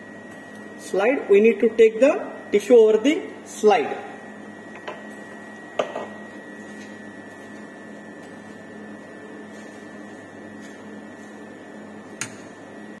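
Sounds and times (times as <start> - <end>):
refrigeration unit humming: 0.0 - 13.0.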